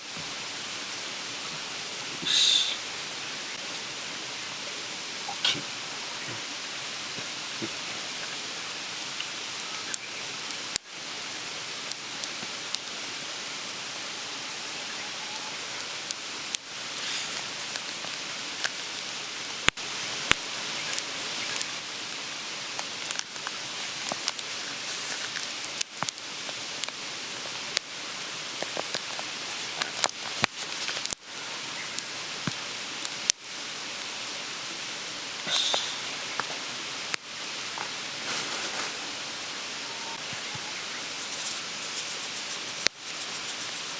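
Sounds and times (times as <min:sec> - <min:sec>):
mountain stream rushing: 0:00.0 - 0:43.9
sharp crackles and pops: 0:03.5 - 0:13.6, 0:14.4 - 0:39.2, 0:40.1 - 0:43.9.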